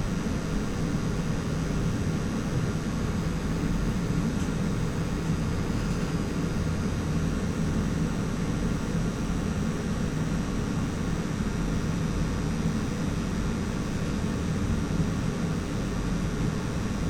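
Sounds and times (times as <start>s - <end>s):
low hum and rumble: 0.0s - 17.0s.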